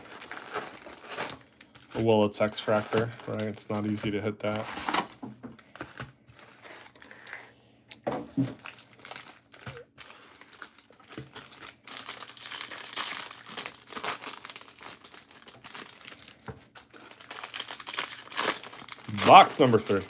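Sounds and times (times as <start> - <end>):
plastic wrapping crinkling and tearing: 0.0 - 7.5, 8.4 - 20.0.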